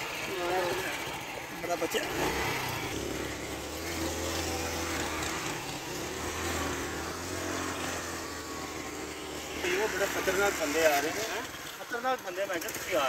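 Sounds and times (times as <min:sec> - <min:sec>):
small motorcycle engine: 0:00.0 - 0:13.0.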